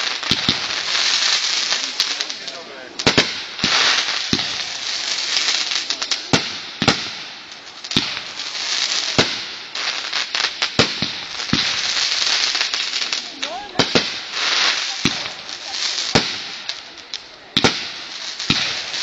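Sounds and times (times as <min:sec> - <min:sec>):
fireworks crackling hiss: 0:00.0 - 0:19.0
sharp firework bangs: 0:00.0 - 0:19.0.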